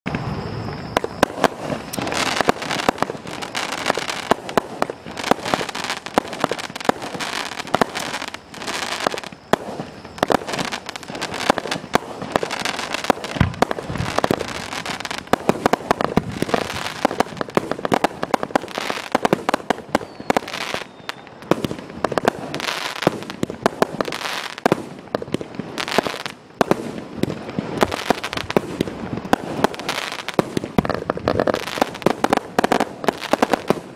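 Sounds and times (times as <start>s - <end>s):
firework shots and bursts: 1.0s - 33.9s.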